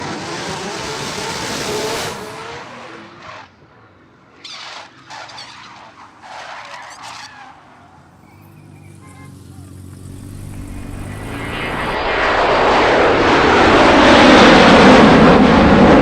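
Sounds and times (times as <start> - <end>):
sports cars racing past: 0.0 - 16.0.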